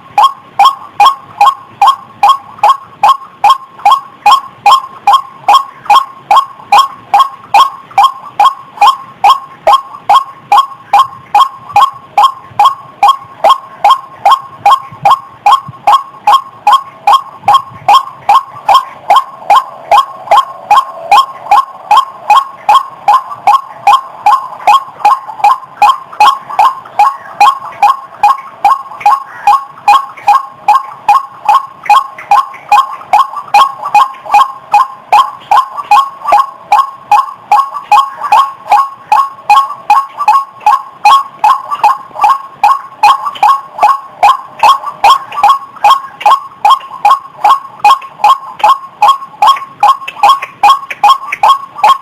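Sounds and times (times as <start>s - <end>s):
waterhen harsh calls: 0.2s - 52.0s.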